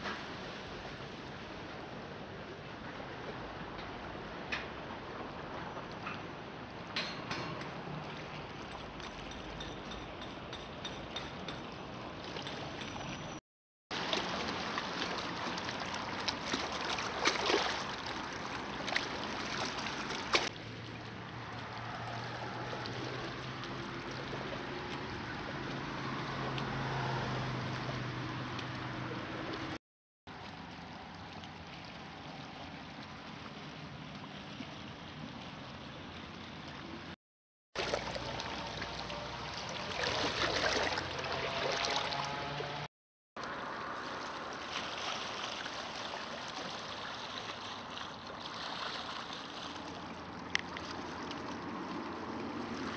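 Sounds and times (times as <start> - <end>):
water lapping on rocky shore: 7.6 - 37.2, 37.8 - 52.9.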